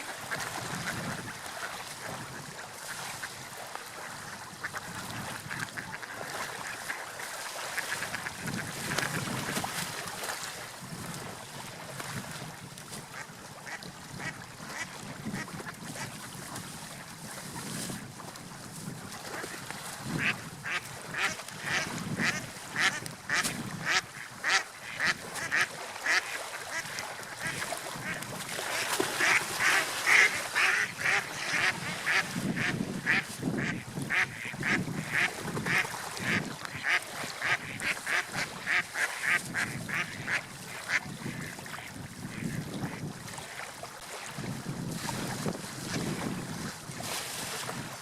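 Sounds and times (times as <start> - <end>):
water: 0.0 - 48.0
wind: 0.0 - 48.0.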